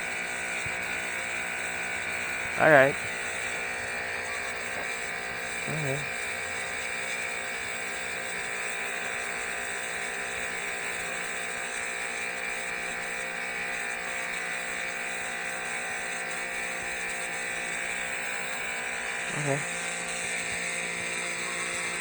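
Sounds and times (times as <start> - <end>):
pressure washer motor humming: 0.0 - 22.0.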